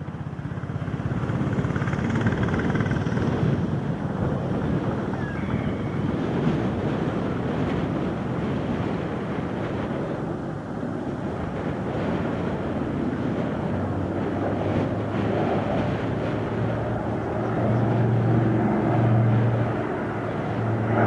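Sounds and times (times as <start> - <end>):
propeller plane engines droning: 0.0 - 21.0
wind buffeting microphone: 0.0 - 21.0.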